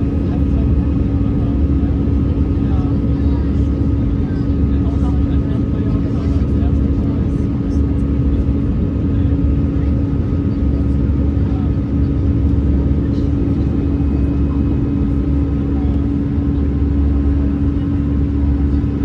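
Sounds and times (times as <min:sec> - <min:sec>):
constant hum: 0:00.0 - 0:19.0
deep rumble of engines and airflow: 0:00.0 - 0:19.0.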